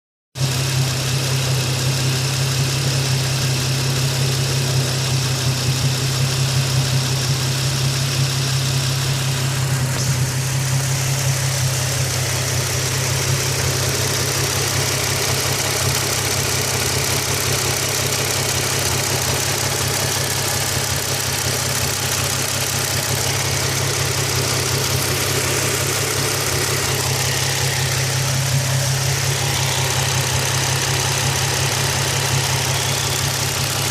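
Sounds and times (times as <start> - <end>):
car engine idling: 0.4 - 33.9
fast engine ticking: 0.4 - 33.9.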